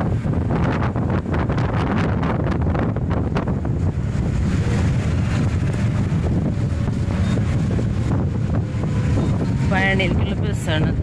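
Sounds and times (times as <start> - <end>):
bus rumbling on road: 0.0 - 11.0
wind buffeting microphone: 0.0 - 11.0.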